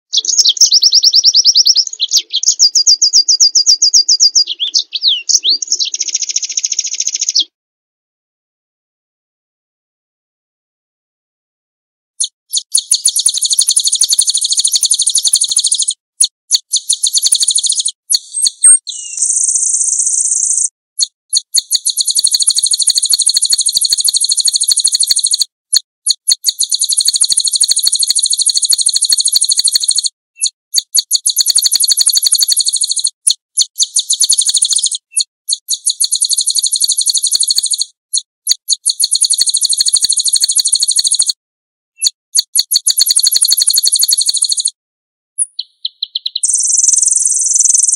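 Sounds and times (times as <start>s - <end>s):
songbird trilling: 0.1s - 7.5s, 12.2s - 20.7s, 21.4s - 25.4s, 26.1s - 41.3s, 42.0s - 44.7s, 45.4s - 47.9s.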